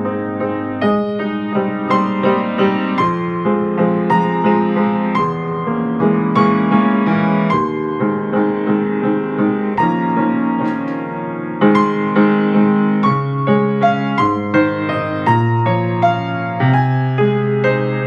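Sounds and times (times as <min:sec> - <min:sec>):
slow gentle piano piece: 0:00.0 - 0:18.0.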